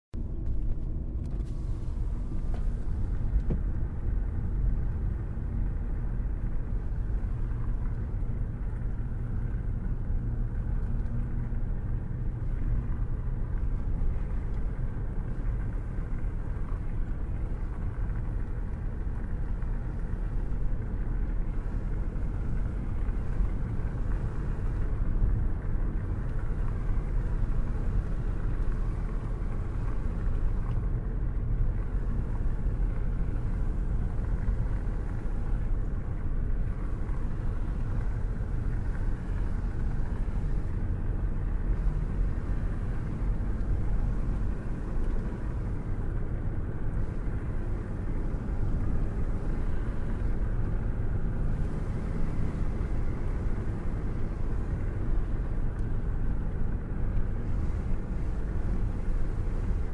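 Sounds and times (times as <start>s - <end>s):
road noise: 0.1s - 59.9s.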